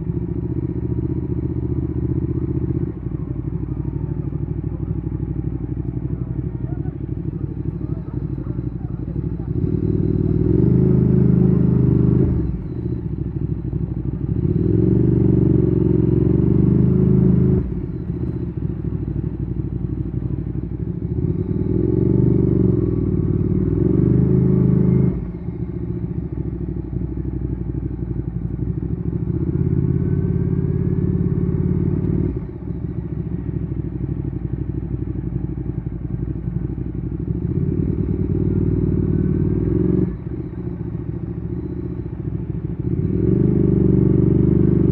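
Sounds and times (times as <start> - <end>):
motorcycle engine under throttle: 0.0 - 44.9.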